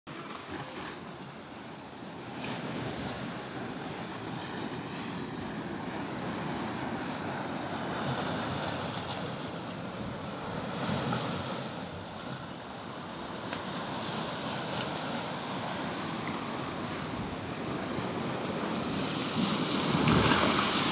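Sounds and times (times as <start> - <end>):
waves washing against rocks: 2.2 - 20.9.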